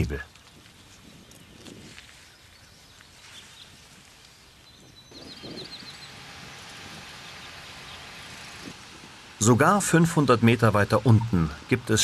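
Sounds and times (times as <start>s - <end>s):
faint outdoor ambience: 0.0s - 12.0s
songbird chirping: 0.0s - 12.0s.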